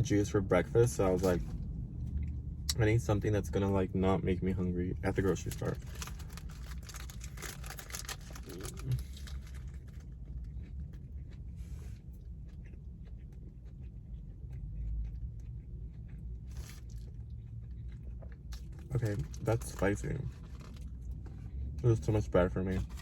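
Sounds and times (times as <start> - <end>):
low steady hum: 0.0 - 23.0
chewing with crackly rustling: 0.2 - 23.0.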